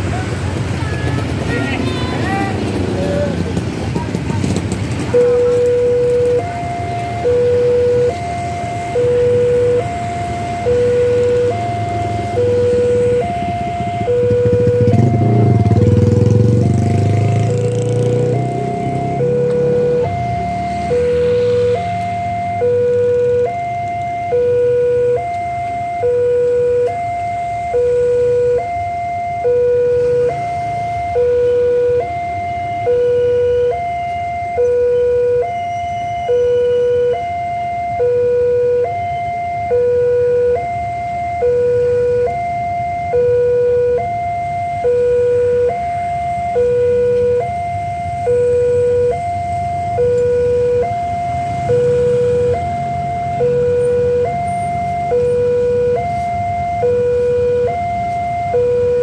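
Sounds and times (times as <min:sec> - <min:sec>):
level-crossing two-tone alarm: 0:04.5 - 0:59.0.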